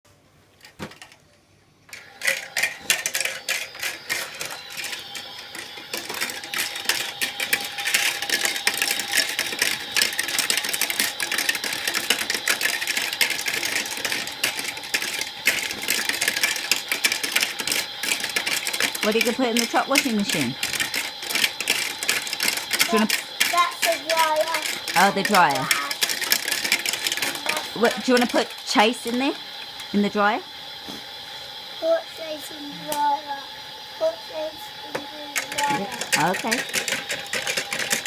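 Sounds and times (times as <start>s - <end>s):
toy washing machine clattering: 0.6s - 1.2s, 1.9s - 30.4s, 34.0s - 38.0s.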